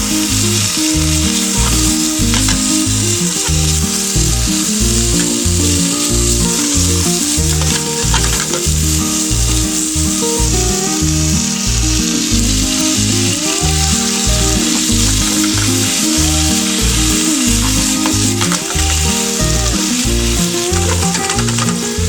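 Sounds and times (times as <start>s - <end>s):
background music with beat: 0.0s - 22.0s
food sizzling in frying pan: 0.0s - 22.0s.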